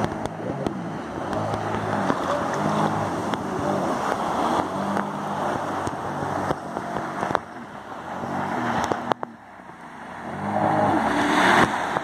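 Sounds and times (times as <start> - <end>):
jet ski engine: 0.0 - 12.0
water rushing: 0.0 - 12.0
wind: 0.0 - 12.0.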